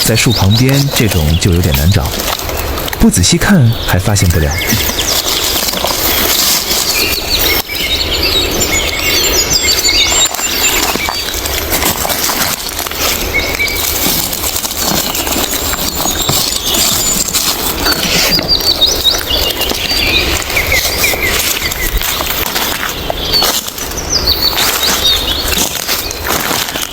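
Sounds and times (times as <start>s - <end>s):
footsteps crunching leaf litter: 0.0s - 26.9s
small birds chirping: 0.0s - 26.9s.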